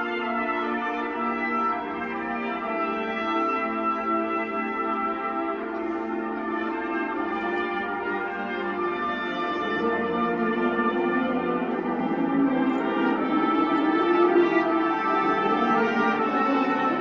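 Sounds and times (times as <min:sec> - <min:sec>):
brass band holding chords: 0:00.0 - 0:17.0.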